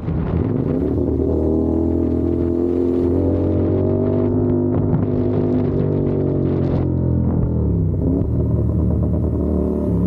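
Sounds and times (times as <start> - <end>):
motorcycle engine running: 0.5 - 10.0.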